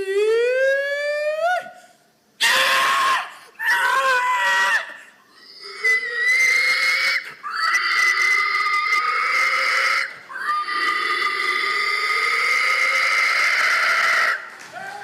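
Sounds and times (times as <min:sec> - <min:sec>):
person screaming hog calls: 0:02.4 - 0:15.0.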